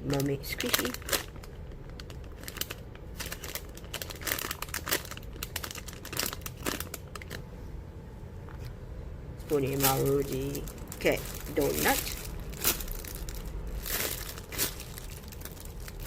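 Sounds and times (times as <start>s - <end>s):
plastic packaging crinkling: 0.0s - 7.4s, 9.4s - 16.0s.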